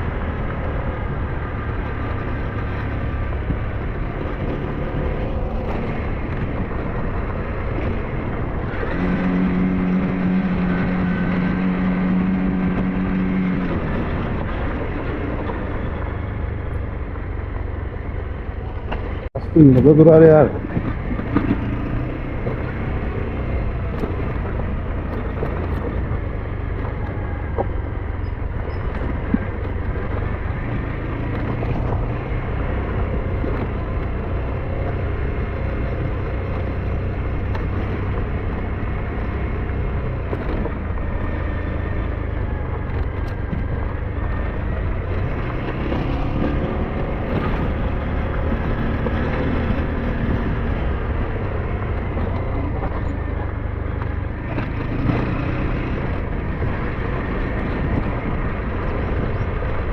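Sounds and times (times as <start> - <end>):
motorbike engine running: 0.0 - 59.9
road and wind noise: 0.0 - 59.9.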